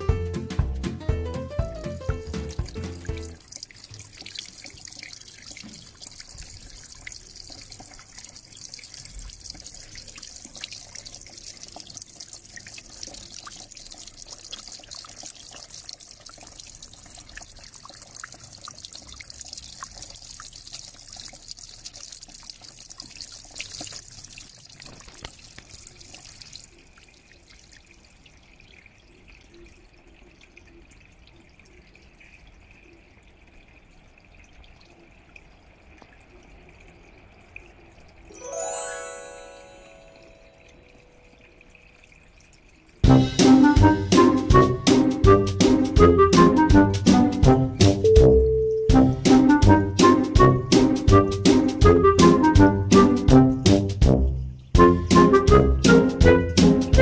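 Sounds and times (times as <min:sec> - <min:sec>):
water dripping: 0:00.6 - 0:57.0
water trickling and splashing: 0:01.6 - 0:57.0.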